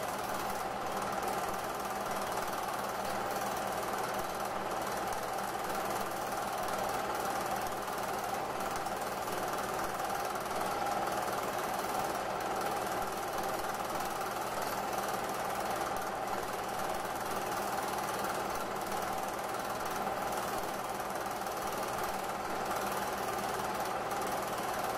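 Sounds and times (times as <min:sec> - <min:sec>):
film projector clattering: 0:00.0 - 0:24.9.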